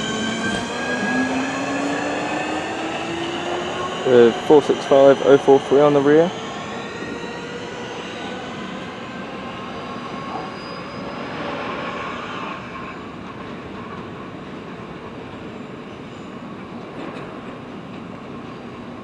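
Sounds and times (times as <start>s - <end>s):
electric train pulling away: 0.0s - 19.0s
train wheels on rails: 0.0s - 19.0s.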